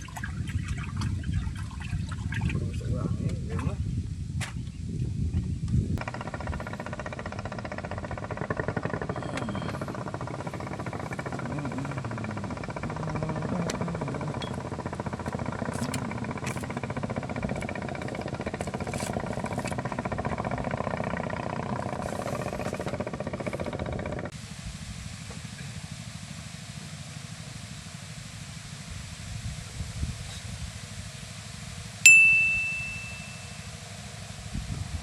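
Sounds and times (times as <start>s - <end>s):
small engine running: 6.0s - 35.0s.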